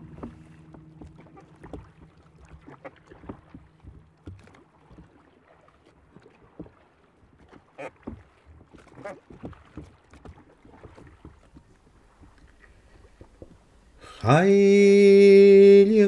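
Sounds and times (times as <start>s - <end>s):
water splashing against wooden hull: 0.0s - 16.0s.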